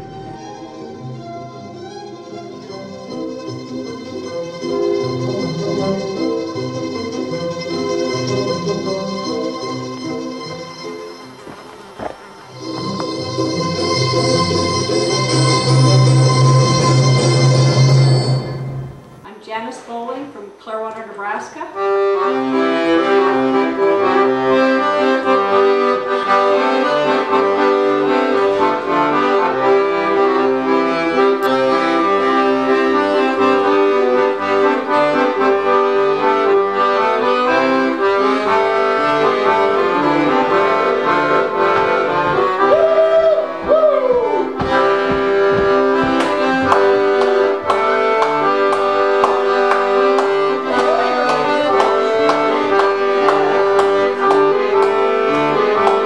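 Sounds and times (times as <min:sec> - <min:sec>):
accordion music: 0:00.0 - 0:19.3, 0:21.7 - 0:56.0.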